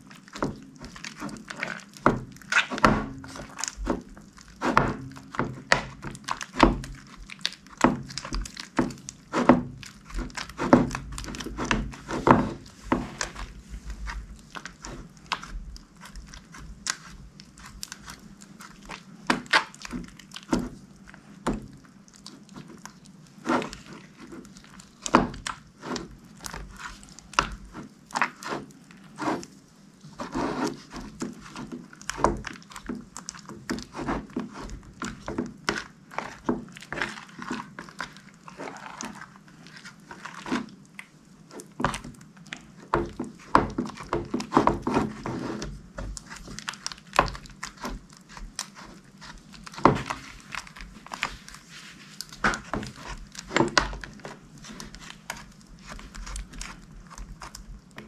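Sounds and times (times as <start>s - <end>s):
slime squishing with sticky pops: 0.0s - 58.0s.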